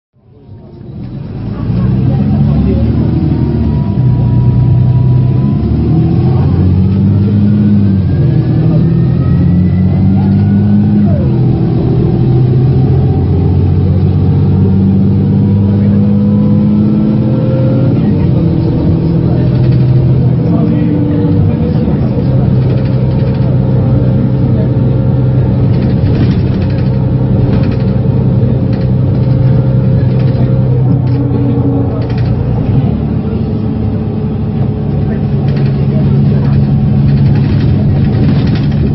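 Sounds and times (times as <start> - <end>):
bus engine accelerating: 0.2 - 38.9.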